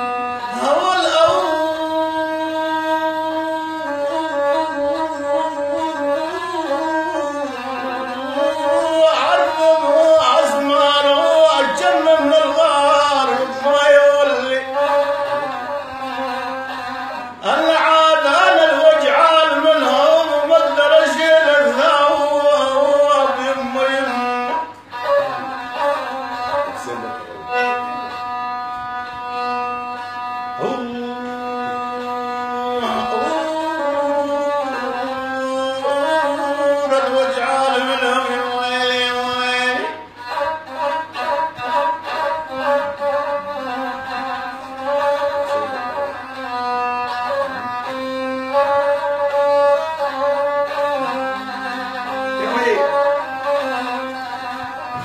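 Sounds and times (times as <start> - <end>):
bowed violin melody: 0.0 - 55.0.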